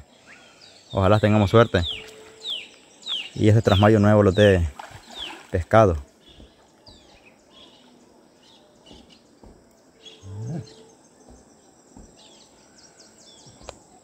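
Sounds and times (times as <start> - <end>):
birds chirping in falling notes: 0.0 - 14.0.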